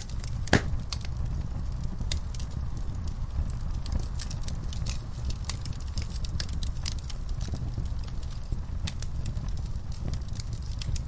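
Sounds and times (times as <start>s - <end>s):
low rumble of burning: 0.0s - 11.0s
wood fire crackling: 0.0s - 11.0s.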